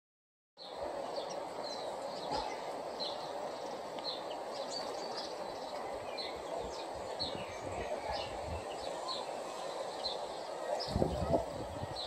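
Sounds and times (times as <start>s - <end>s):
small birds chirping: 0.6s - 12.0s
steady rushing noise: 0.6s - 12.0s.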